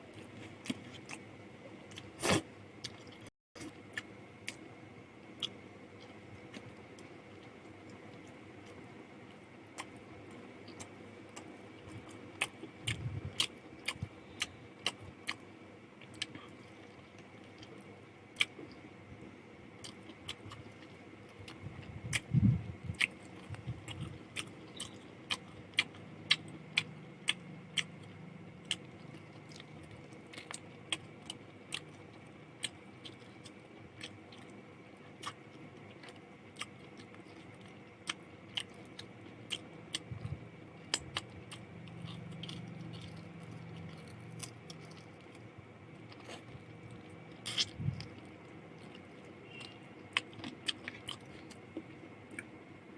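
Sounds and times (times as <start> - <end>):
person chewing food: 0.1 - 8.8, 9.7 - 18.8, 19.8 - 52.6.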